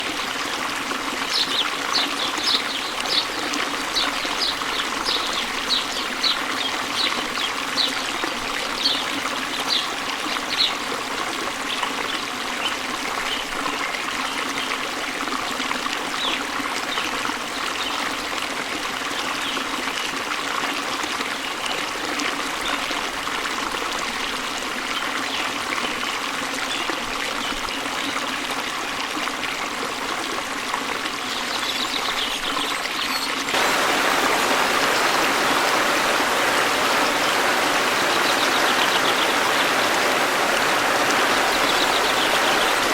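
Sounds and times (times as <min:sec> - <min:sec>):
stream trickling and babbling: 0:00.0 - 0:42.9.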